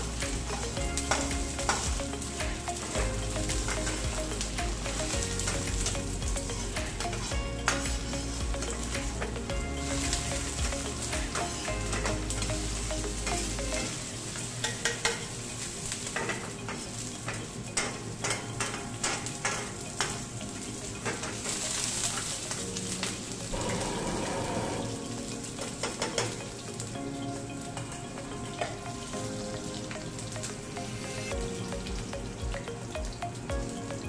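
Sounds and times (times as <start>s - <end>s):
oil sizzling in skillet: 0.0s - 34.0s.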